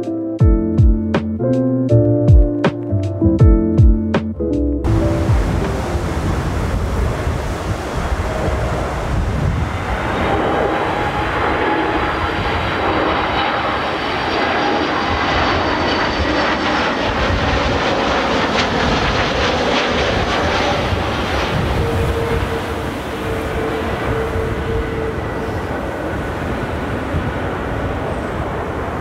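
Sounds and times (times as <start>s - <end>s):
high fan whine: 4.9s - 29.0s
jet engine roar: 4.9s - 29.0s.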